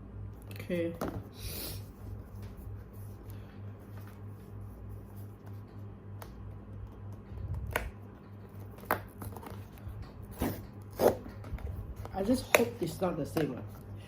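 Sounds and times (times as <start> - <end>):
low pulsing hum: 0.0 - 14.0.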